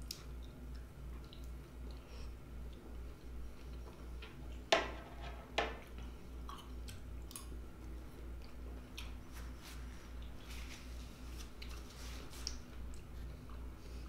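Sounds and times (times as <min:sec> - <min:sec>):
chewing soft melon: 0:00.0 - 0:04.7, 0:06.0 - 0:10.5, 0:11.4 - 0:14.0.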